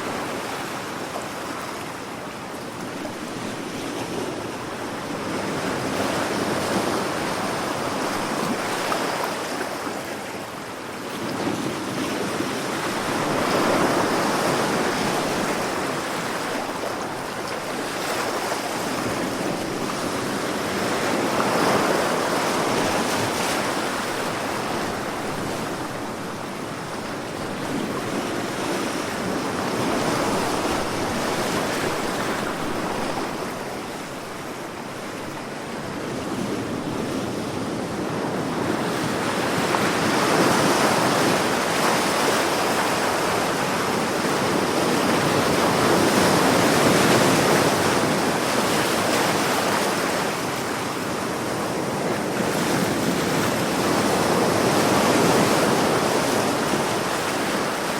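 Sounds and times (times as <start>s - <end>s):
sea waves washing ashore: 0.0s - 57.9s.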